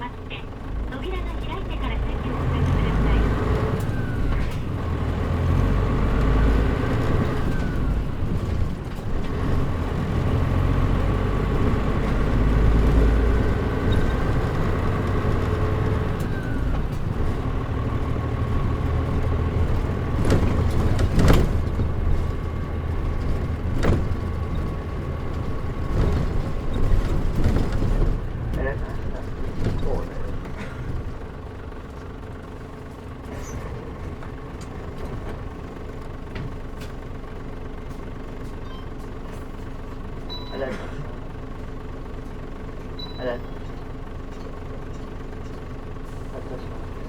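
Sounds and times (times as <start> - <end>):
bus engine running: 0.0 - 47.0.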